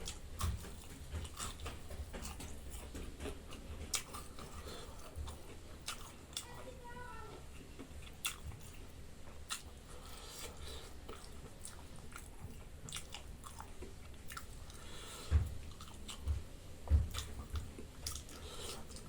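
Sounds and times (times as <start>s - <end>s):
person chewing food: 0.0s - 6.7s, 7.4s - 19.0s.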